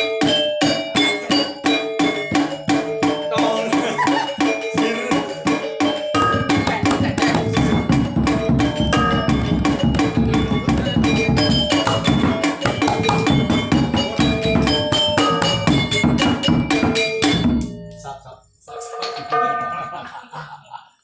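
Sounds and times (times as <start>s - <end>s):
drumming: 0.0s - 20.4s
metallophones ringing fast strikes: 0.0s - 20.4s.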